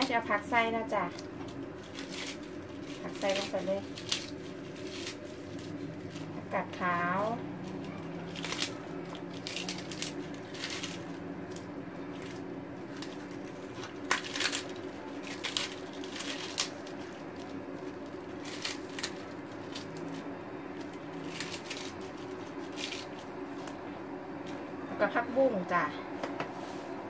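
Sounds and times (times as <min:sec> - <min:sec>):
leafy rustles and clicks: 0:00.0 - 0:23.8
steady low hum: 0:00.0 - 0:27.0.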